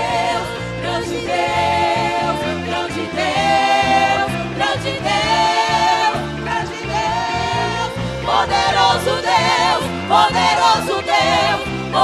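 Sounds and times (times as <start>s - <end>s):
vocal group singing gospel: 0.0s - 12.0s.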